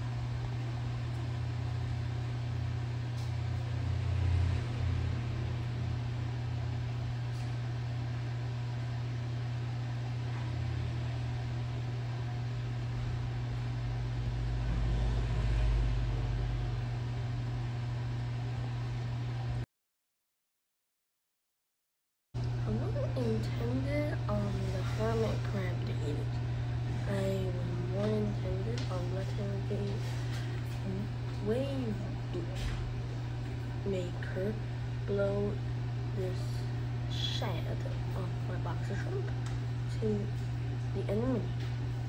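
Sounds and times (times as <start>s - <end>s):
aquarium pumps humming: 0.0s - 19.6s, 22.4s - 42.0s.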